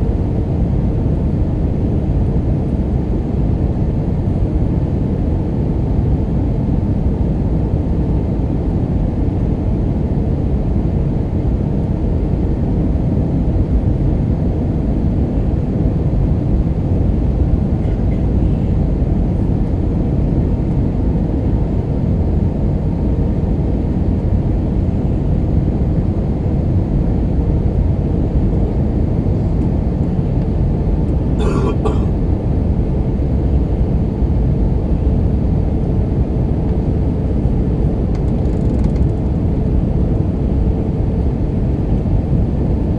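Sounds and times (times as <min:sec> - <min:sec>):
airplane cabin airflow rush: 0:00.0 - 0:42.9.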